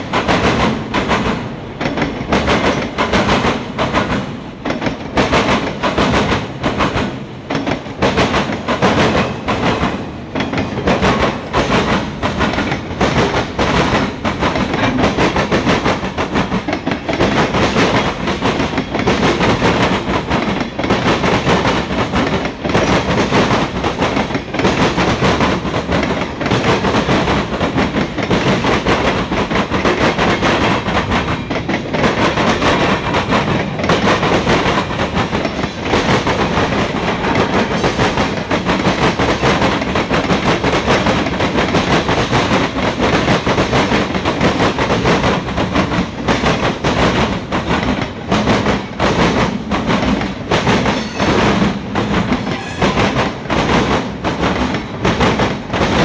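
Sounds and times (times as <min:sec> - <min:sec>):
steel wheels clacking over rail joints: 0:00.0 - 0:56.0
train rumble: 0:00.0 - 0:56.0.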